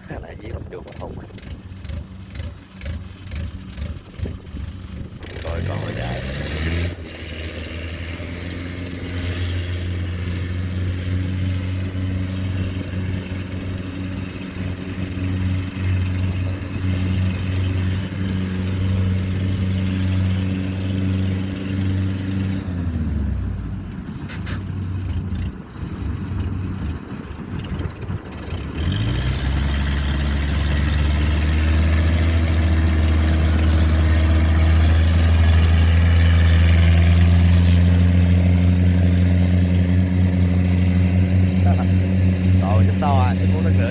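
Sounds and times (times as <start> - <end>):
diesel engine running: 0.0 - 43.9
rough engine rumble: 0.0 - 43.9.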